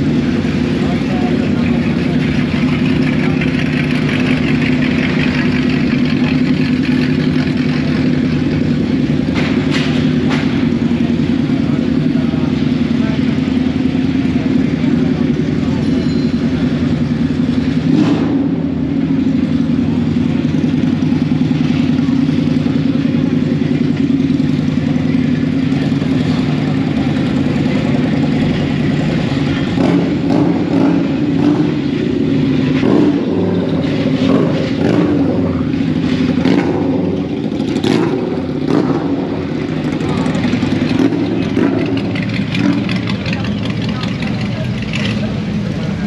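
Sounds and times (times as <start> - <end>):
car engines running low speed: 0.0 - 46.0.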